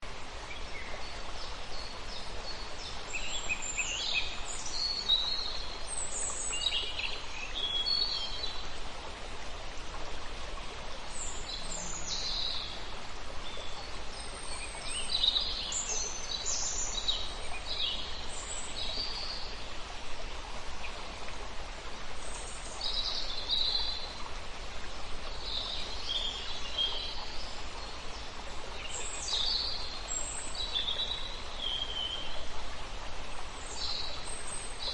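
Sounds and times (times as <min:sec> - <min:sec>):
forest stream running: 0:00.0 - 0:34.9
songbirds chirping: 0:00.0 - 0:34.9.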